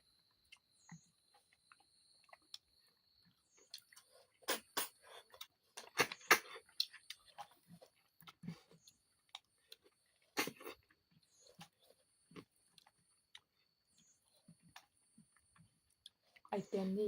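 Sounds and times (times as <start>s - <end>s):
wet sucking and chewing clicks: 0.0s - 16.5s.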